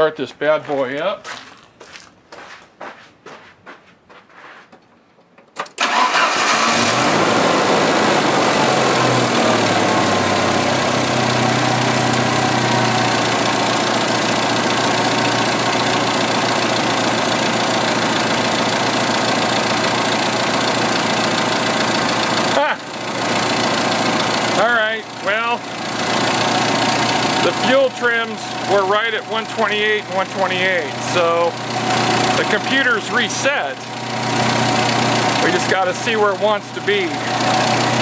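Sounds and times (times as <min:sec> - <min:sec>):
car engine starting and idling: 0:05.4 - 0:38.0.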